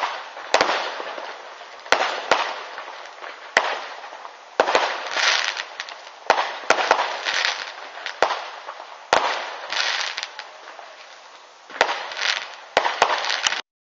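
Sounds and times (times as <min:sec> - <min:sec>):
firework shells bursting: 0:00.0 - 0:13.6
crackling firework sparkle: 0:00.0 - 0:13.7.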